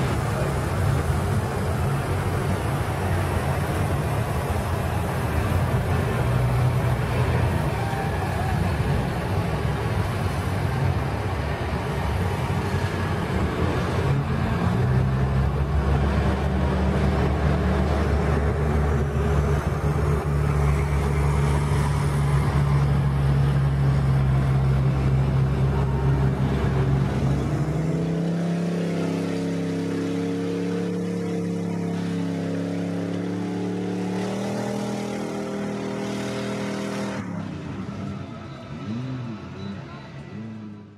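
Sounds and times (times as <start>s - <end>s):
vehicle engines droning: 0.0s - 40.9s.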